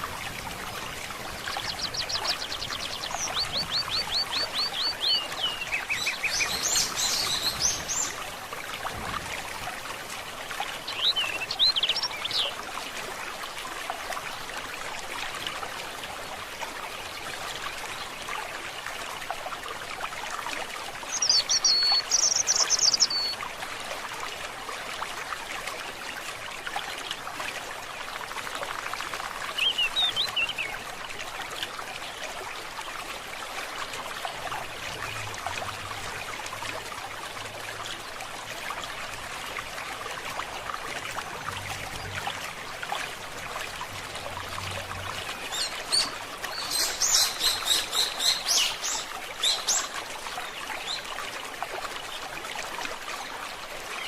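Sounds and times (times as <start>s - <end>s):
forest stream trickling: 0.0s - 54.0s.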